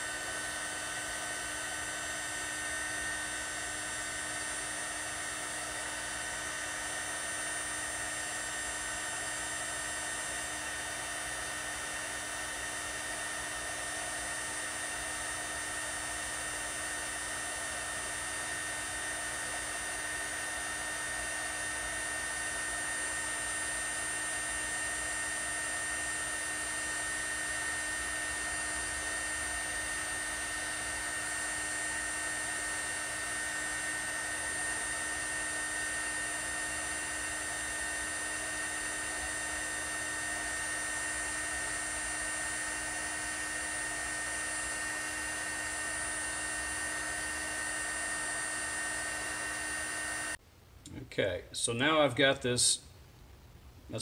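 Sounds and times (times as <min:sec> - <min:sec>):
hot air gun fan whine: 0:00.0 - 0:50.4.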